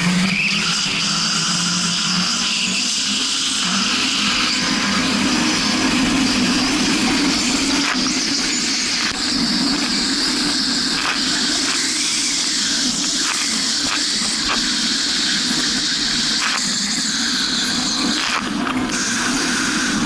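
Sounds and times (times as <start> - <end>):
jet ski engine droning: 0.0 - 20.0.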